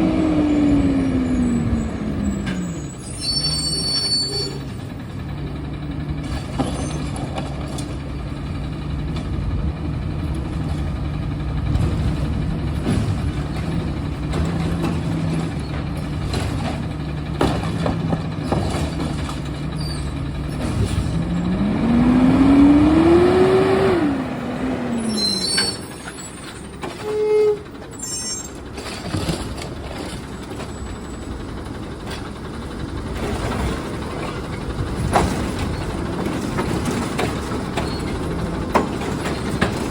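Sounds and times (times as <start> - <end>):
garbage truck engine revving: 0.0 - 39.9.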